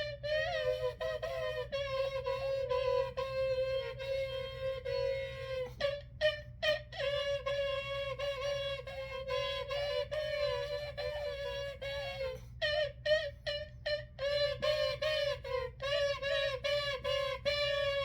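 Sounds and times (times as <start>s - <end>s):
dual pipes playing: 0.0s - 18.0s.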